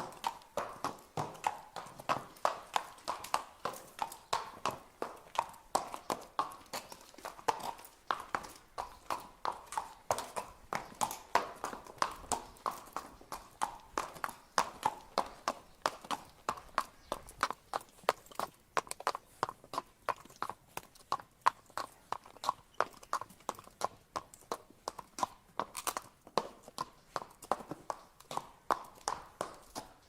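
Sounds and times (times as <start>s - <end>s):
horse hooves walking: 0.0s - 30.0s.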